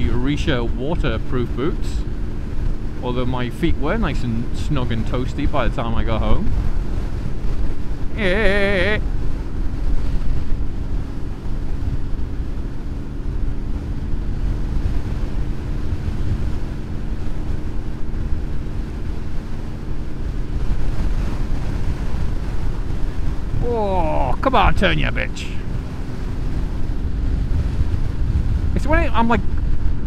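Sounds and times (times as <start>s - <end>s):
motorcycle engine humming: 0.0s - 30.0s
wind buffeting microphone: 0.0s - 30.0s.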